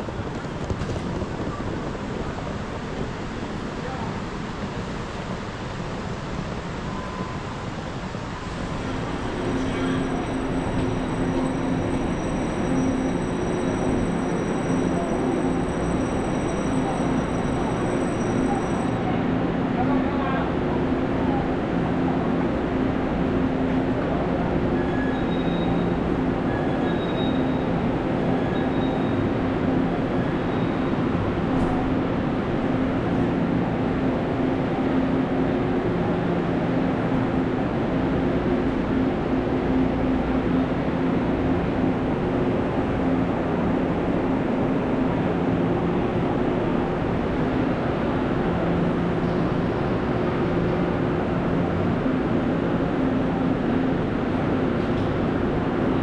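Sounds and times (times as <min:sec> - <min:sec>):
train mechanical hum and rumble: 0:00.0 - 0:56.0.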